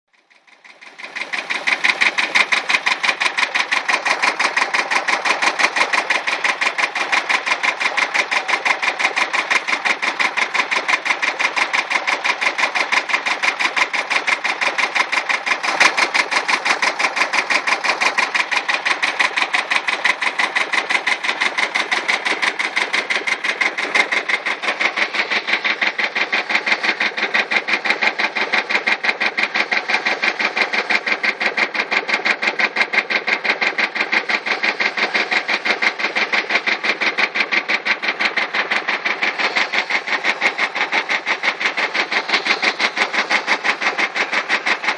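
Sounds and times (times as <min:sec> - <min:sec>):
tractor engine running: 0:00.1 - 0:44.9.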